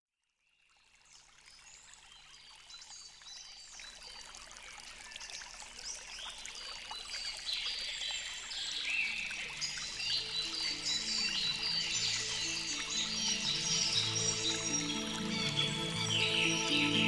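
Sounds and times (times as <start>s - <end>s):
running water stream: 0.6s - 17.0s.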